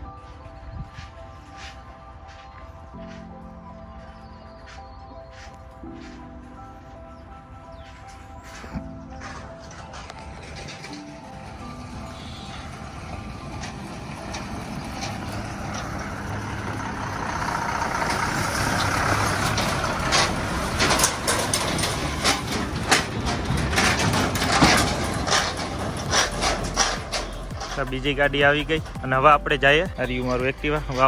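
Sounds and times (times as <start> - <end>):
diesel lorry engine: 0.0 - 31.0.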